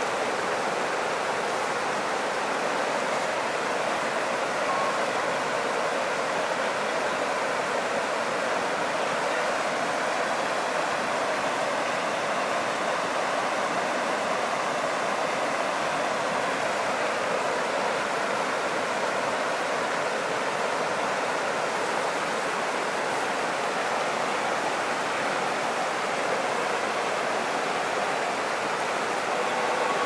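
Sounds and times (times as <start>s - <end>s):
river rushing over stones: 0.0s - 30.0s.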